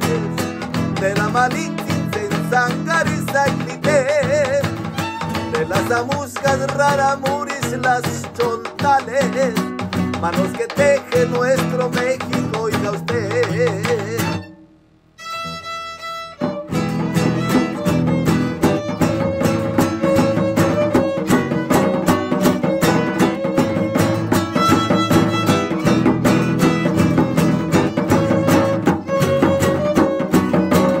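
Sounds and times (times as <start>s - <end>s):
instrumental music with violin and guitar: 0.0s - 31.0s.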